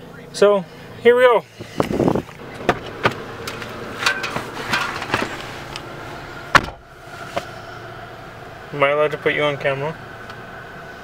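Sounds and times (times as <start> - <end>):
car interior hum: 0.0 - 11.0.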